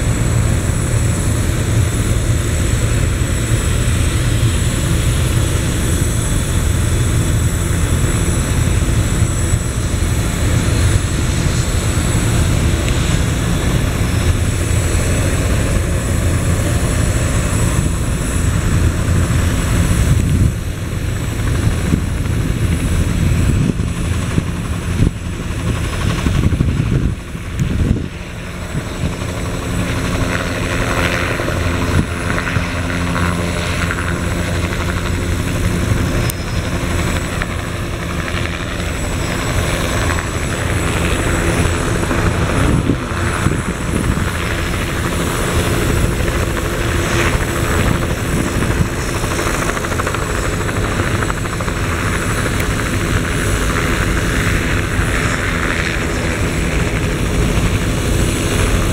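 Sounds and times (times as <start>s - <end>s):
helicopter engines and rotors: 0.0s - 58.9s.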